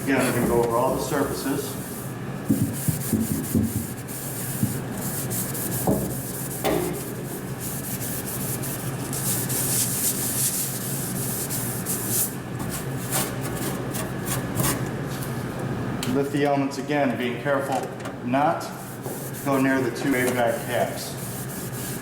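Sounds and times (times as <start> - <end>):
scouring pad scrubbing oven: 0.0 - 15.4, 16.9 - 22.0.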